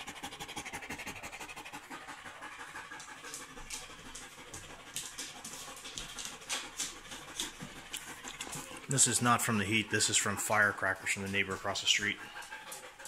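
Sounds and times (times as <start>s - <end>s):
dog panting fast: 0.0s - 13.0s.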